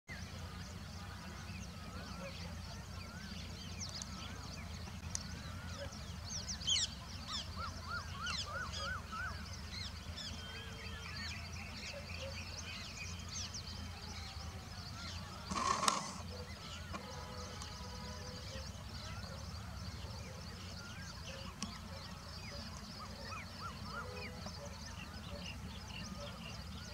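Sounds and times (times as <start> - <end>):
birds chirping: 0.1 - 26.9.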